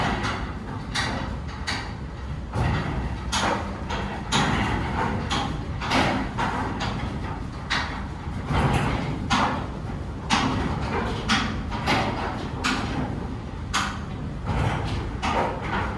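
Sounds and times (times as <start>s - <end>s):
parking machinery running noise: 0.0s - 15.9s
sharp knocks and clanks: 0.0s - 15.9s.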